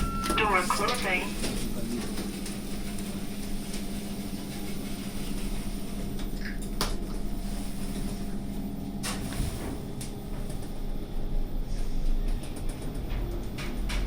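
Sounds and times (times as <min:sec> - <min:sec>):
lift hum and rumble: 0:00.0 - 0:14.0.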